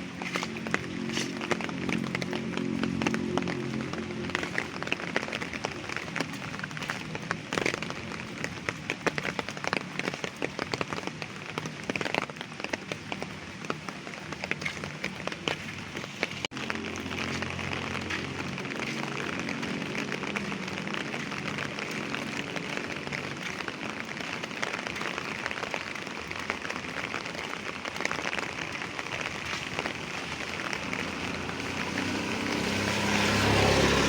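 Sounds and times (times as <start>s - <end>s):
rain drops falling: 0.0s - 34.0s.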